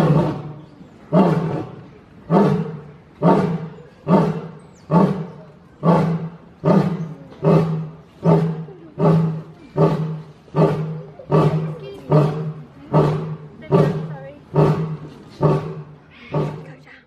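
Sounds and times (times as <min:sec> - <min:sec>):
lion roaring: 0:00.0 - 0:16.7.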